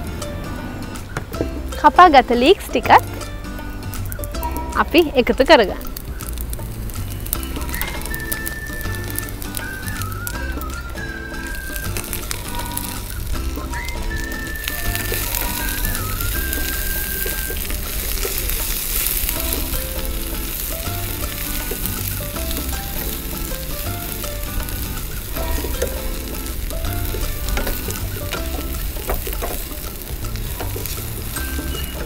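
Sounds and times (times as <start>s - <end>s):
background music: 0.0s - 32.0s
food sizzling in a frying pan: 0.8s - 32.0s.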